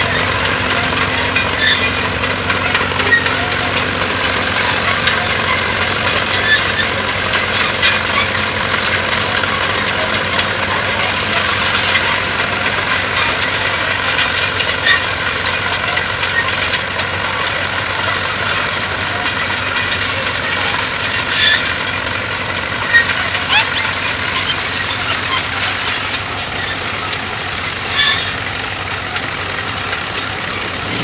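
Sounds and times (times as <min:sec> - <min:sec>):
crawler tractor engine: 0:00.0 - 0:31.0
steel tracks rattling: 0:00.0 - 0:31.0.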